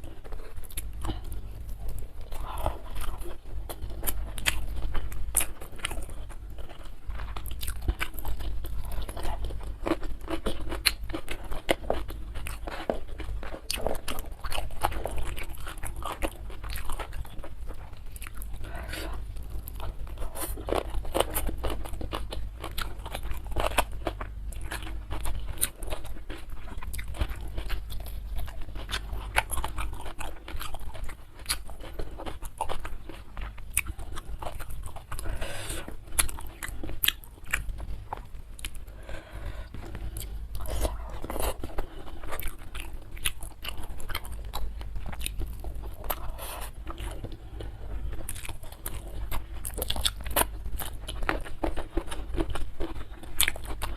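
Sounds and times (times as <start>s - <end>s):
crunchy chewing and biting: 0.0s - 53.9s.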